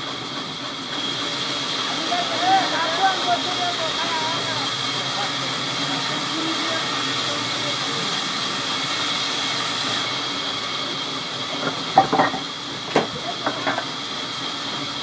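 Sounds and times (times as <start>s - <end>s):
sawmill machinery whining: 0.0s - 15.0s.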